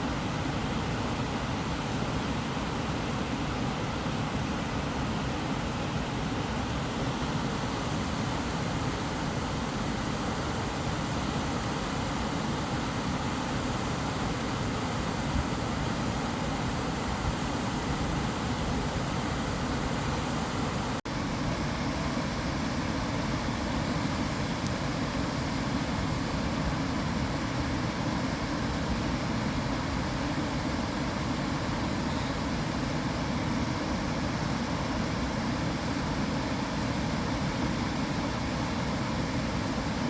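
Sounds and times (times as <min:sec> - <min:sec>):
steady white noise hiss: 0:00.0 - 0:40.0.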